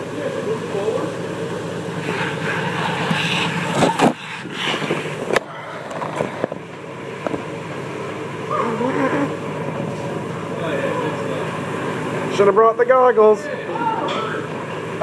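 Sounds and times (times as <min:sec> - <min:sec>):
spraying water and machinery: 0:00.0 - 0:15.0.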